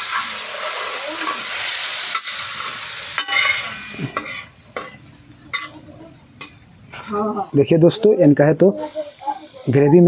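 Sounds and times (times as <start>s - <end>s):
gravy sizzling on iron griddle: 0.0s - 10.0s.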